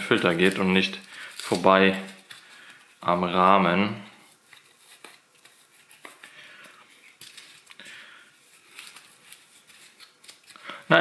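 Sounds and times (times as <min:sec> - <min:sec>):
soft rustling of filter: 0:00.0 - 0:11.0.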